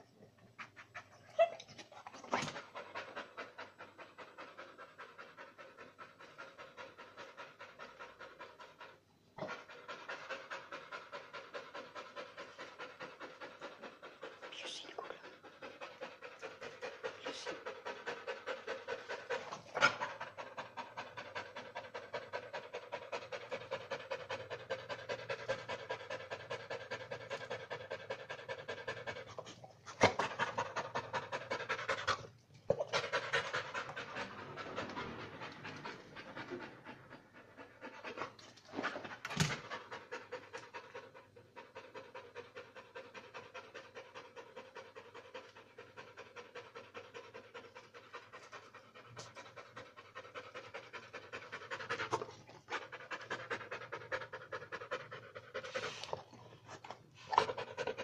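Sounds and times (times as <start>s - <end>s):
dog panting rapidly: 2.3s - 58.0s.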